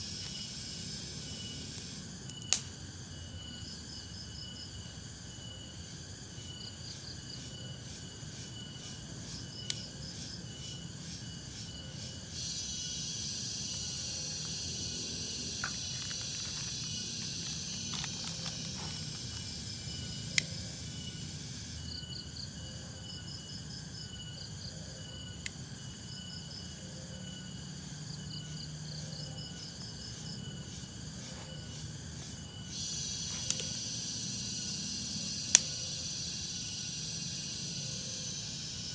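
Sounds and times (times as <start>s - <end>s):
high insect buzzing chorus: 0.0s - 38.9s
insects chirping in pulsed trills: 0.0s - 38.9s.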